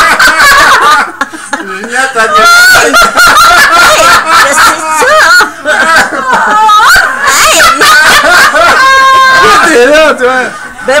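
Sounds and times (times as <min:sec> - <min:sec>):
people laughing loudly: 0:00.0 - 0:11.0.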